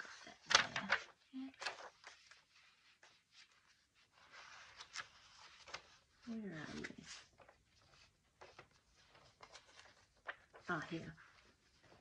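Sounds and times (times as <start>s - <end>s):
paper pages being turned: 0.0s - 12.0s.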